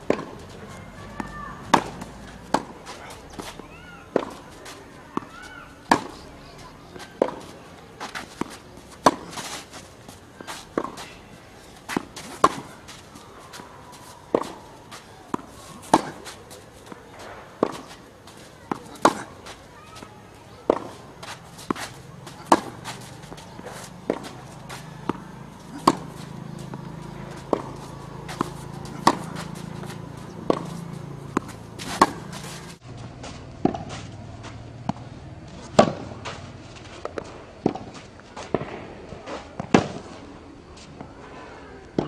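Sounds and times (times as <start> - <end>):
tennis ball struck by rackets: 0.0 - 6.2, 6.9 - 40.1
tennis ball bouncing: 0.0 - 40.1.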